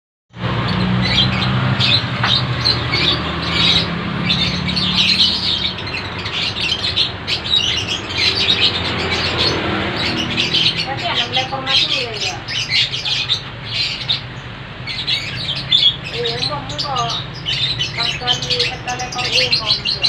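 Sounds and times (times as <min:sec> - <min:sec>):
lovebirds chirping and squeaking: 0:00.5 - 0:20.0.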